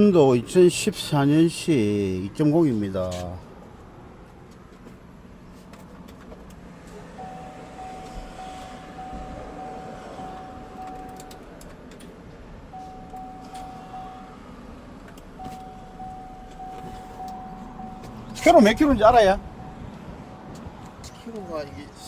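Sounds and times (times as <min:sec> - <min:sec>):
traffic hiss and rumble: 0:00.0 - 0:22.0.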